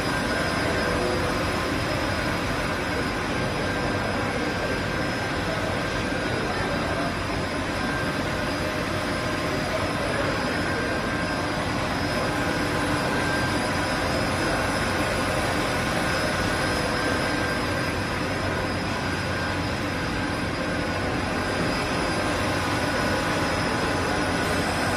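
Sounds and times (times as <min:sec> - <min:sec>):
faint machine whines: 0:00.0 - 0:24.9
machinery droning: 0:00.0 - 0:24.9.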